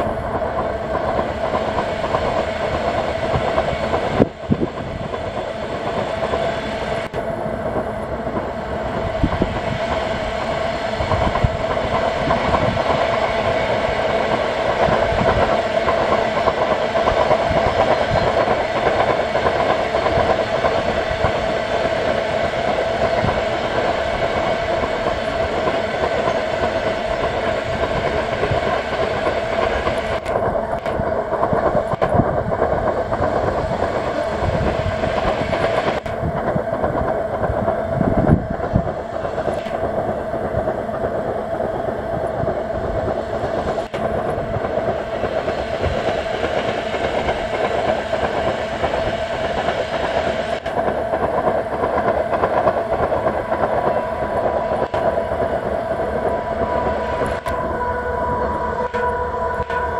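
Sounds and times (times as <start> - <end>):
steady whine: 0.0 - 59.9
train wagons rumbling on rails: 0.0 - 59.9
wheels clacking over rail joints: 0.0 - 59.9.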